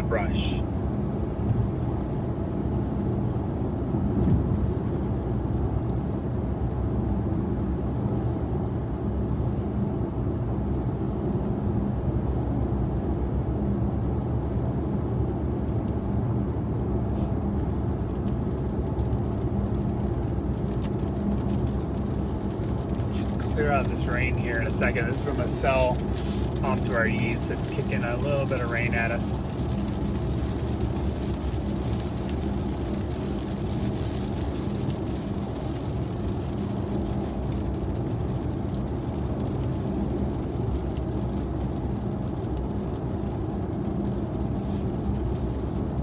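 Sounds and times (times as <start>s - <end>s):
road and engine noise in car cabin: 0.0s - 46.0s.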